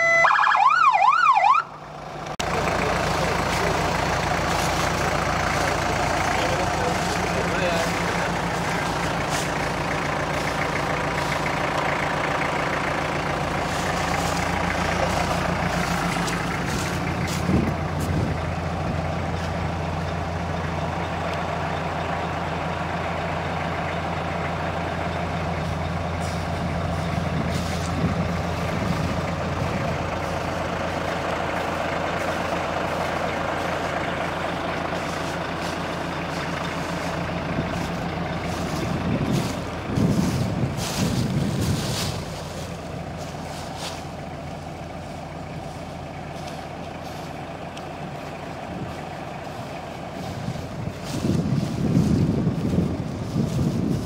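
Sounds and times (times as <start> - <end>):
fire truck engines idling: 0.0 - 54.0.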